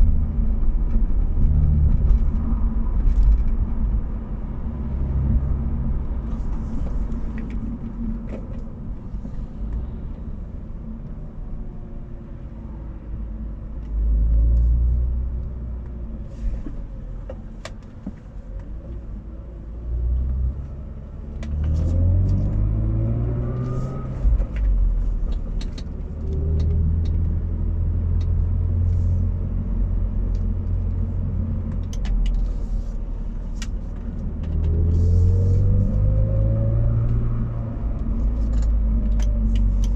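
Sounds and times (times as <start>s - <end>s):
car driving at low speed: 0.0s - 39.9s
low rear-end hum: 0.0s - 39.9s.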